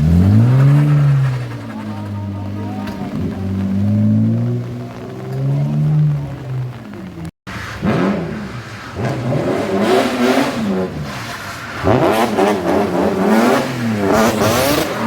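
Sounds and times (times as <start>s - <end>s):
car engine revving hard: 0.0s - 6.9s, 7.7s - 15.0s.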